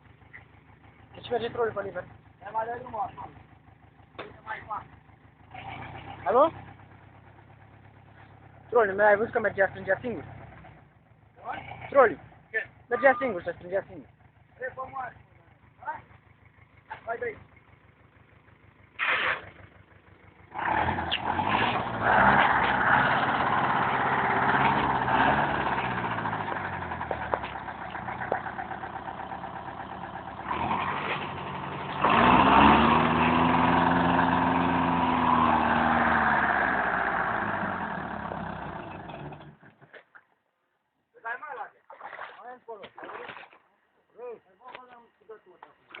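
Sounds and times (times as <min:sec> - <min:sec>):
tractor engine revving: 0:00.0 - 0:13.9, 0:14.8 - 0:39.9.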